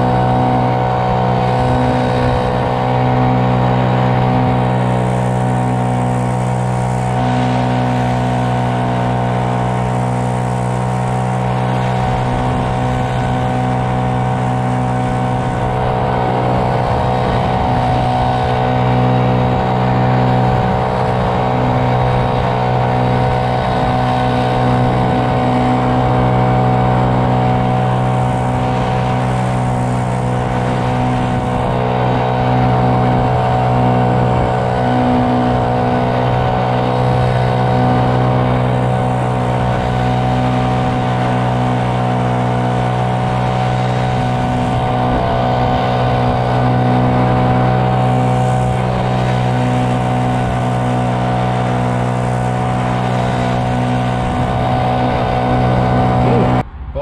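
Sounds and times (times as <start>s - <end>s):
vehicle engine humming steadily: 0.0s - 57.0s.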